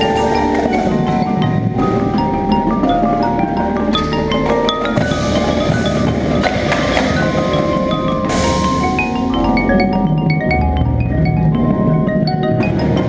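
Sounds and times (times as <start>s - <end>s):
percussion ensemble playing: 0.0s - 13.0s
xylophone and glockenspiel notes: 0.0s - 13.0s.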